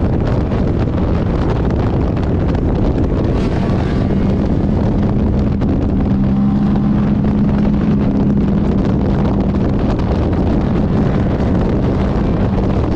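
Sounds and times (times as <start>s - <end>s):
race car engine running hard: 0.0s - 12.9s
wind buffeting microphone: 0.0s - 12.9s.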